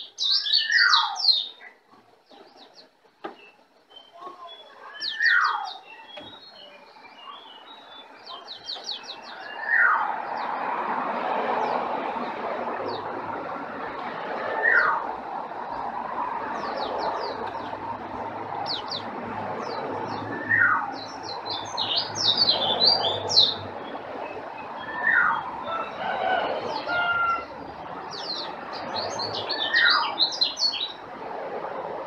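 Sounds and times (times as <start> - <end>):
songbirds chirping: 0.0 - 32.0
steady background noise: 0.0 - 32.0.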